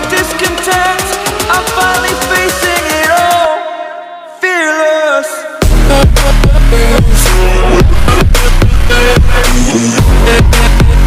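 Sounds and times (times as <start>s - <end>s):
song with drum beat: 0.0s - 3.7s, 5.6s - 11.0s.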